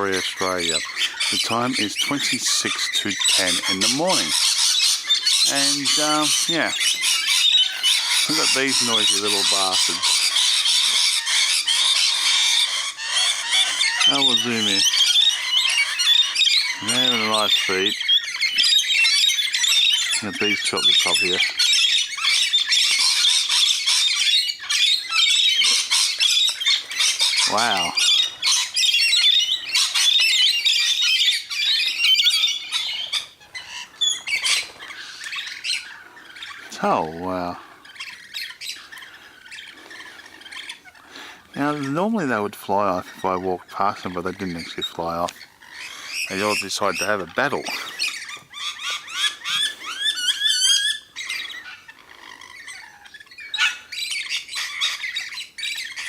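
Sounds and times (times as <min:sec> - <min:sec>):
birds squawking and screeching: 0:00.0 - 0:56.0.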